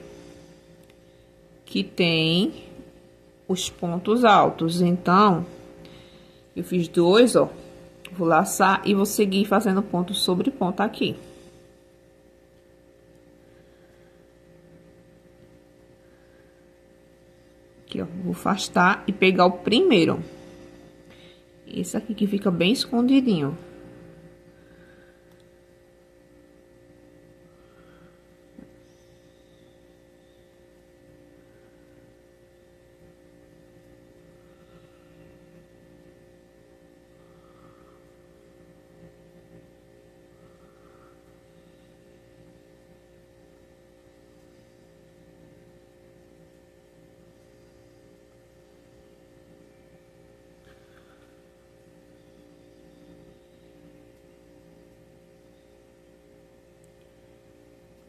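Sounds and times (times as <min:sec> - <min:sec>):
faint electrical hum: 0:00.0 - 0:58.0.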